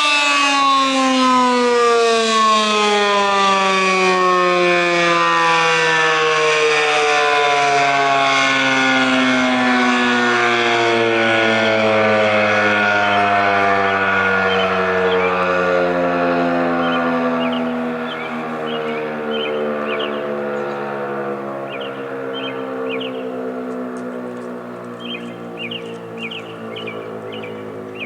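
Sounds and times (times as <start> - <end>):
fire siren: 0.0 - 28.0.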